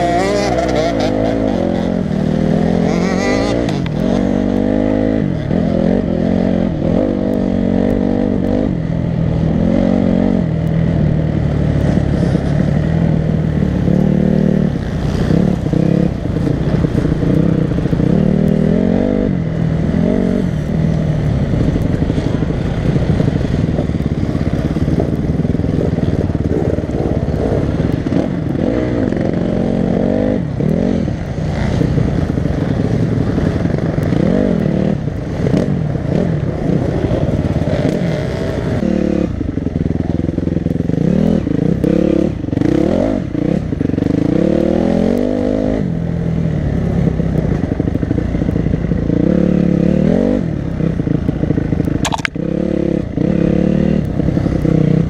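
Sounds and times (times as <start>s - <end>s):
dirt bike engine revving: 0.0s - 39.5s, 48.4s - 55.0s.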